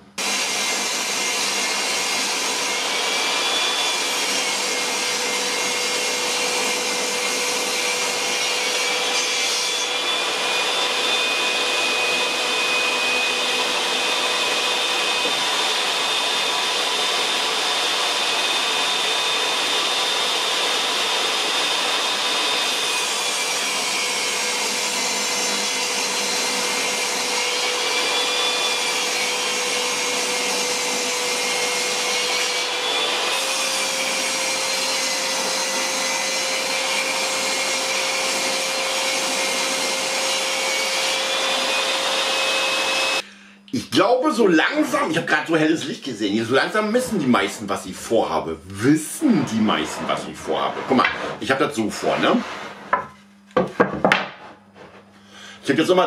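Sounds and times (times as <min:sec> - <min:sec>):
vacuum cleaner motor whining: 0:00.0 - 0:43.7, 0:49.1 - 0:53.3.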